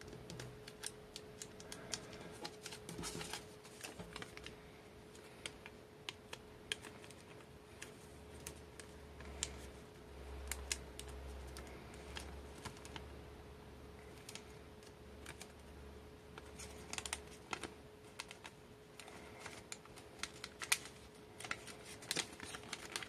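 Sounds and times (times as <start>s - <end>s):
paper crackling and tapping: 0.0s - 9.8s, 10.4s - 13.1s, 14.0s - 23.0s
faint steady hum: 0.0s - 23.0s.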